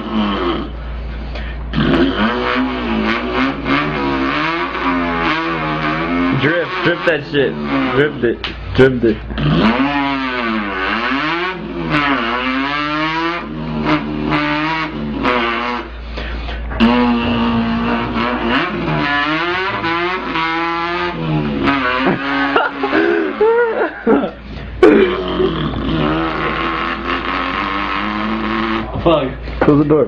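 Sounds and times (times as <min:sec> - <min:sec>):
man imitating car engine: 0:00.0 - 0:30.0.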